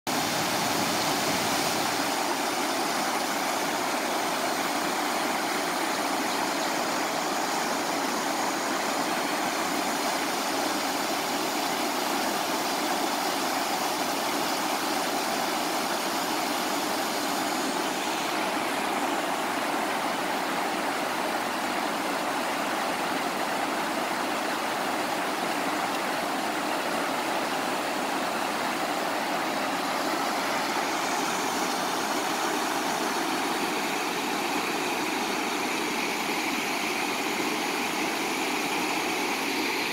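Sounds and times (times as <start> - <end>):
whitewater rushing over rocks: 0.1 - 39.9.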